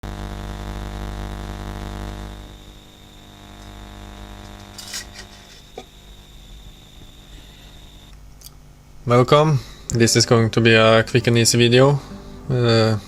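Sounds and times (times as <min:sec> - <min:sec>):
buzzing electrical hum: 0:00.0 - 0:13.0
faint high-pitched whine: 0:00.1 - 0:13.0.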